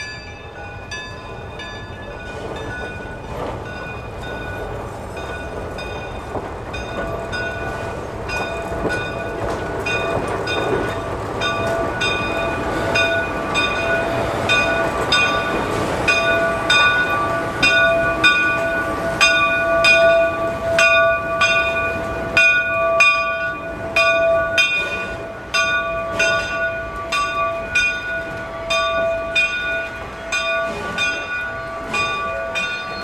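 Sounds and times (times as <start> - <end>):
steam locomotive bell ringing: 0.0 - 33.0
train cars rolling past: 0.0 - 33.0.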